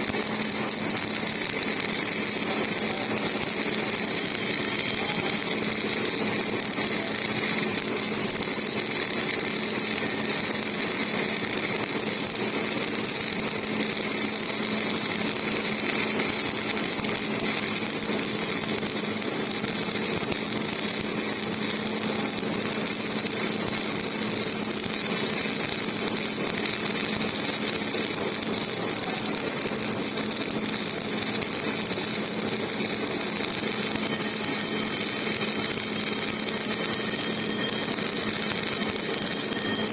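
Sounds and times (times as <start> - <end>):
welding arc crackling sizzle: 0.0 - 39.9.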